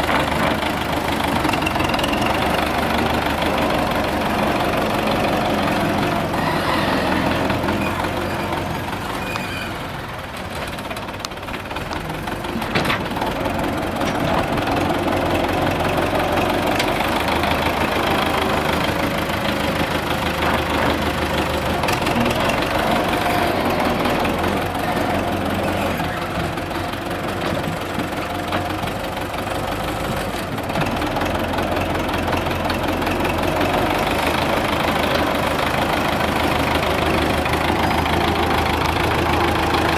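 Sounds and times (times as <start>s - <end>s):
loader bucket working dirt: 0.0s - 39.9s
tractor diesel engine running: 0.0s - 39.9s.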